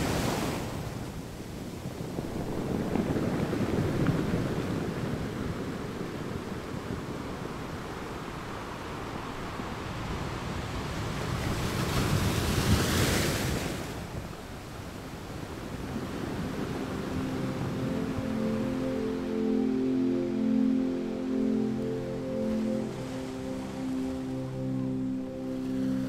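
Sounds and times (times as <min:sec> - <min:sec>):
sea waves washing ashore: 0:00.0 - 0:26.0
wind: 0:00.0 - 0:26.0.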